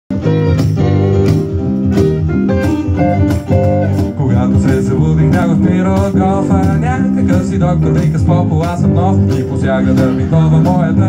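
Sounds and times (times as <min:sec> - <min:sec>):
acoustic guitar strumming: 0:00.1 - 0:11.0
keyboard playing: 0:00.1 - 0:11.0.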